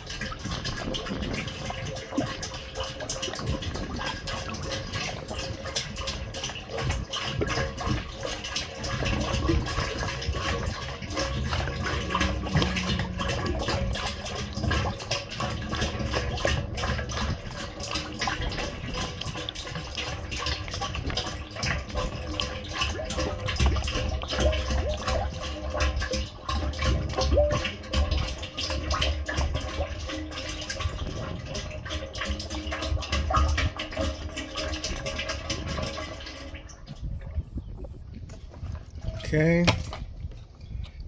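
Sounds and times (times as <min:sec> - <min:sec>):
oil pouring into a tank: 0:00.0 - 0:40.9.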